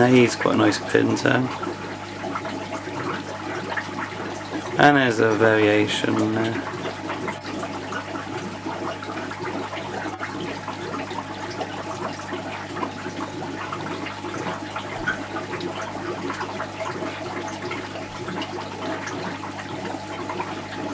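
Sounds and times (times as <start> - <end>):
aquarium water bubbling: 0.0 - 20.9.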